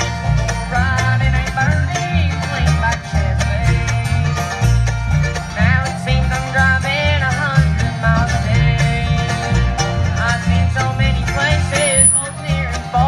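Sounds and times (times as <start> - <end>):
acoustic guitar picking: 0.0 - 13.0
banjo: 0.0 - 13.0
mandolin: 0.0 - 13.0
upright bass line: 0.0 - 13.0.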